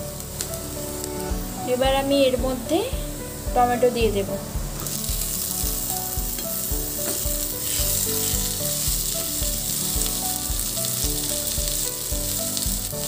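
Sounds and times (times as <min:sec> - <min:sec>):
onions and tomato sizzling in oil: 0:00.0 - 0:13.0.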